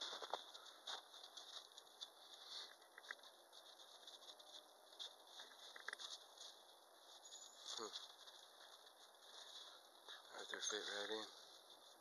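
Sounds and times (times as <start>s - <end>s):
footsteps crunching in snow: 0.0s - 12.0s
sharp crackles: 0.0s - 12.0s.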